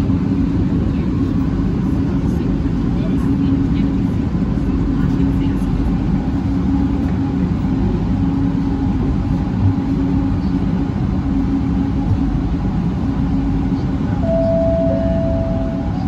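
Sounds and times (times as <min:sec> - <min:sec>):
metro train rumble: 0:00.0 - 0:16.0.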